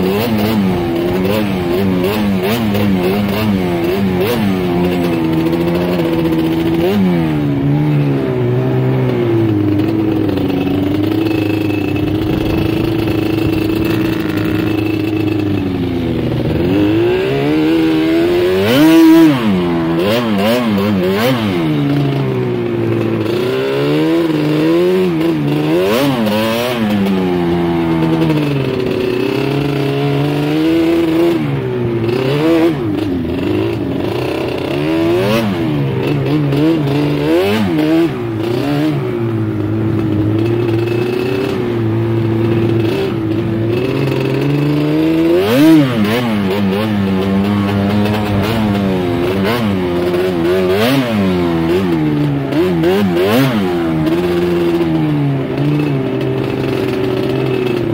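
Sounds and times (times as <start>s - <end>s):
quad engine revving: 0.0s - 57.9s.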